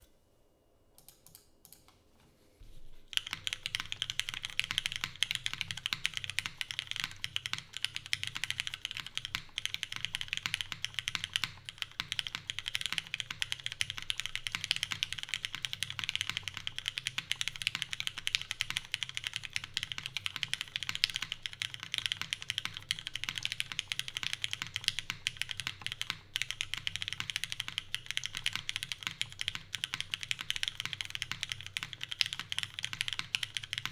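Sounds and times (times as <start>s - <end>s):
mechanical keyboard typing: 3.1s - 33.9s.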